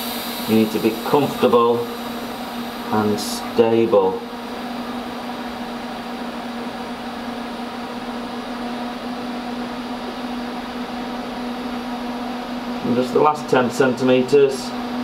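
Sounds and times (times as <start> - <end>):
welding arc humming and hissing: 0.0 - 15.0.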